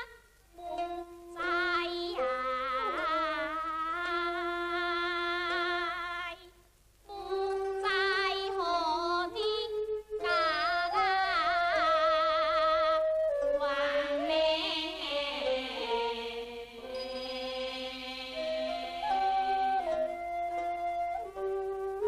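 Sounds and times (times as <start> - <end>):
woman singing opera: 0.0 - 6.5, 7.1 - 16.9, 17.5 - 20.8.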